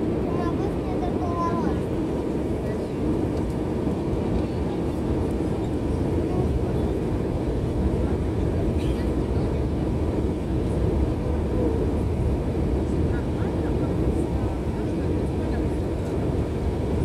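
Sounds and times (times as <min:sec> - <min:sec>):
jet engine cabin noise: 0:00.0 - 0:17.0.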